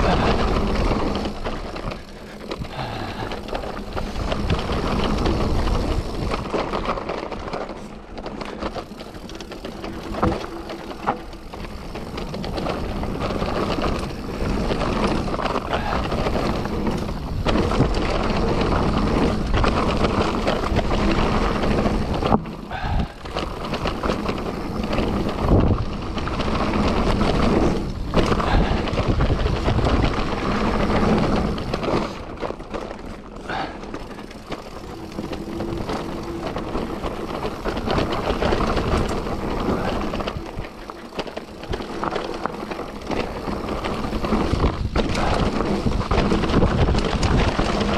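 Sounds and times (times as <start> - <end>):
wind noise on microphone: 0.0 - 7.7, 11.4 - 32.9, 33.5 - 47.9
bicycle tyre noise: 0.0 - 47.9
bike frame rattle: 0.0 - 47.9.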